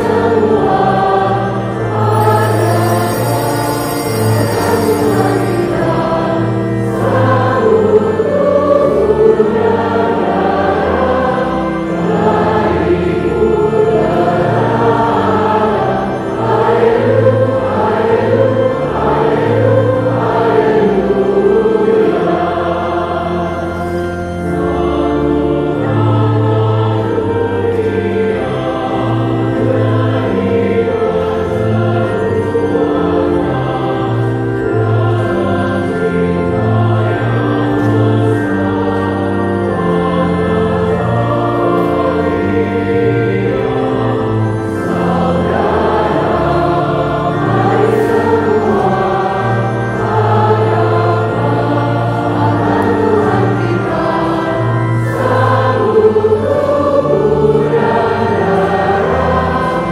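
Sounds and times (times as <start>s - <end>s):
choir singing a slow hymn: 0.0s - 59.9s.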